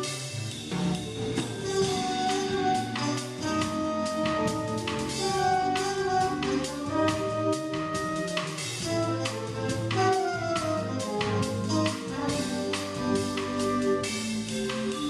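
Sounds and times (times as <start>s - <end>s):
drum kit with cymbal strokes: 0.0s - 15.0s
trumpet and trombone melody: 0.0s - 15.0s
upright bass: 0.0s - 15.0s.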